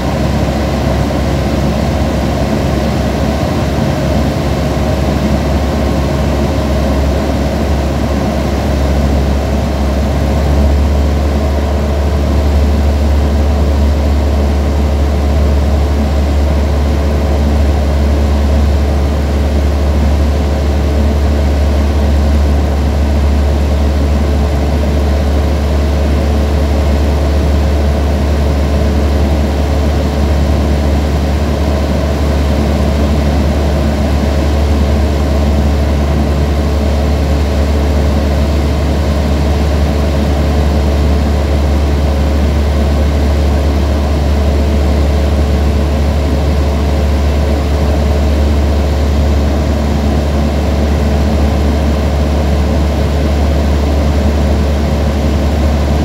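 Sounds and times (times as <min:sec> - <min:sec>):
propeller aircraft engine droning: 0:00.0 - 0:56.0.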